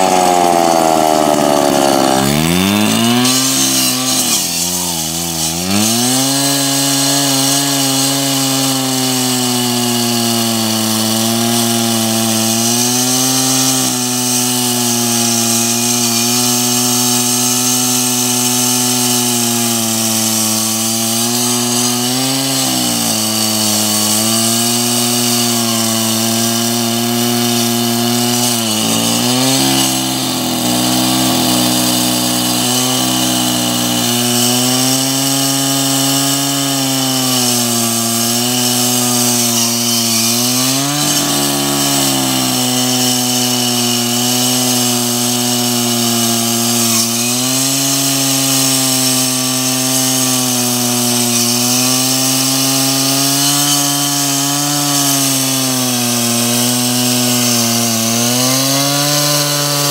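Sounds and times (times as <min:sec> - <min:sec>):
blade grinding concrete: 0:00.0 - 0:59.9
concrete cutter motor whine: 0:00.0 - 0:59.9.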